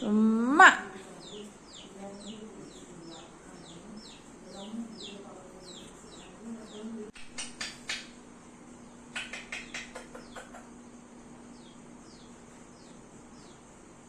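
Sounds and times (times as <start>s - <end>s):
harsh bird calls: 0.0s - 8.2s, 8.8s - 14.0s
birds chirping: 0.0s - 14.0s
faint low hum: 0.0s - 14.0s.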